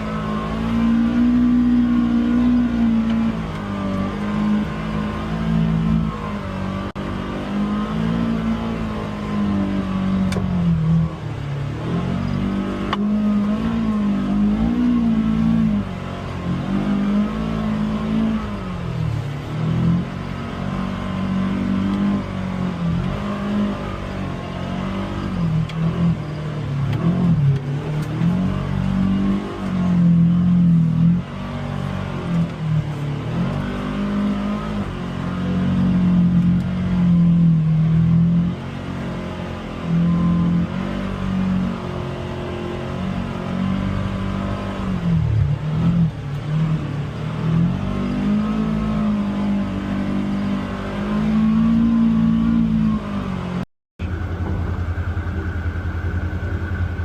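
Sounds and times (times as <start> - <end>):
utv engine revving: 0.0 - 57.0.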